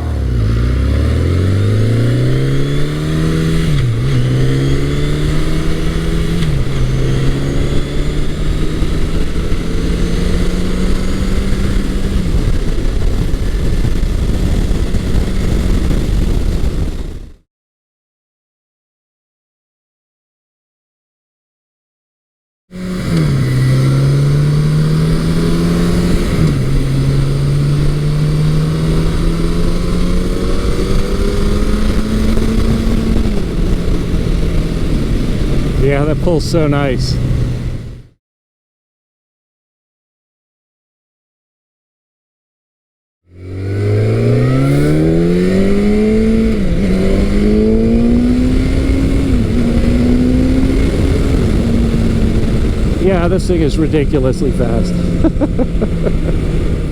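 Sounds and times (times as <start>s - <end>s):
motorcycle engine accelerating: 0.0s - 17.4s, 22.7s - 38.2s, 43.3s - 56.9s.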